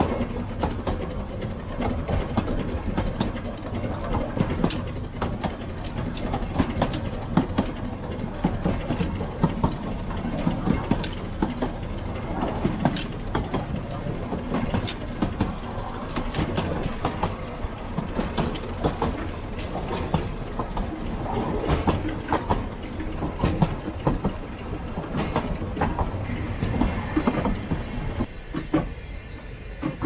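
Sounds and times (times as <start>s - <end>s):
wheels clicking over rail joints: 0.0s - 29.0s
train rumbling: 0.0s - 30.0s.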